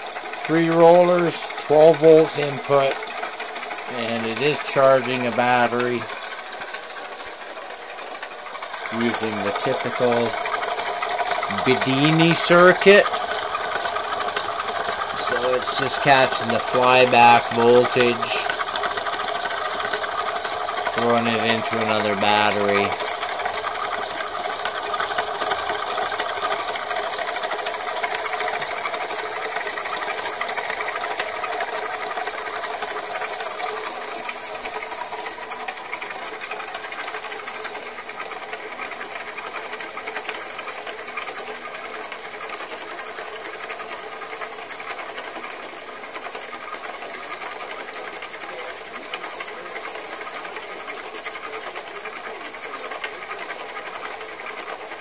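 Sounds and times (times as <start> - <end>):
mechanical whirring clatter: 0.0 - 55.0.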